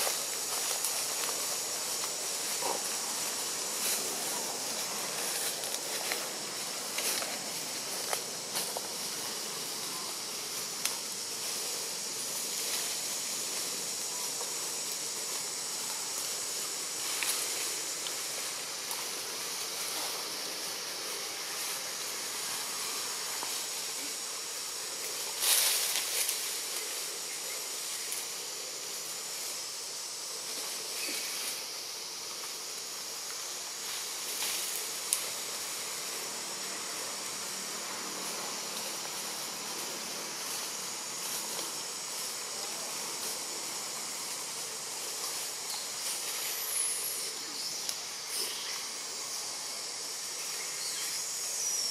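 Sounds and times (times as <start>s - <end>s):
high-pitched insect drone: 0.0s - 51.9s
rustle: 0.0s - 51.9s.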